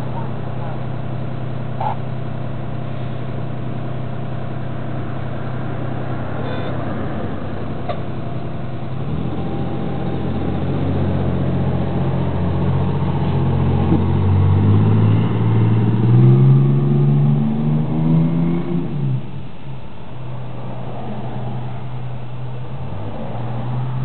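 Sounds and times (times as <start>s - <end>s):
diesel engine accelerating: 0.0s - 24.0s.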